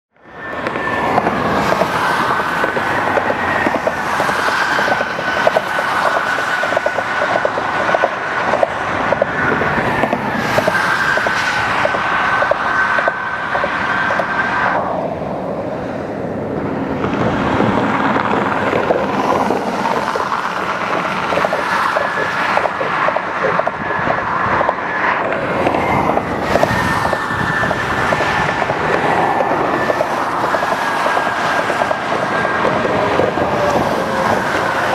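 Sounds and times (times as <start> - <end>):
highway traffic: 0.1 - 34.9.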